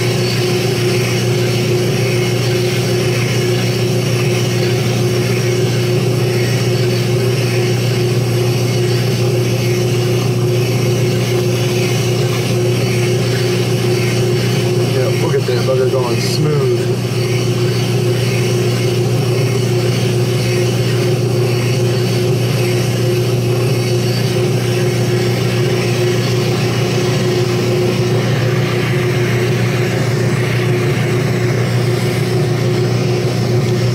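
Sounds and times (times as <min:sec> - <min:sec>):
lathe humming: 0:00.0 - 0:33.9.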